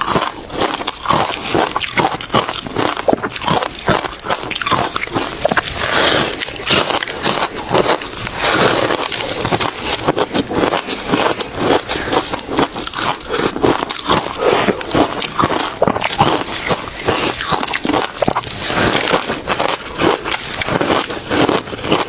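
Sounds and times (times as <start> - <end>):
ice being chewed: 0.0 - 22.0.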